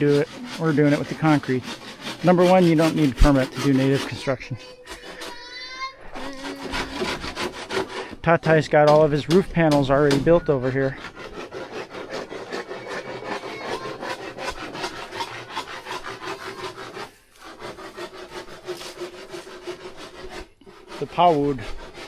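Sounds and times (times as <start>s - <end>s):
blade rasping wood: 0.0s - 22.0s.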